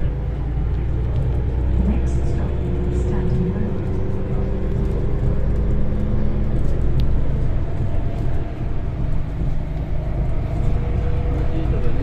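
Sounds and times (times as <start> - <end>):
bus engine and wheels rumbling: 0.0 - 12.0.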